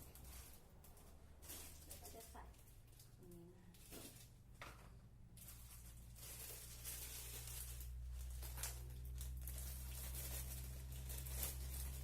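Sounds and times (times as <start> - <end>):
plastic bags rustling: 0.0 - 12.0.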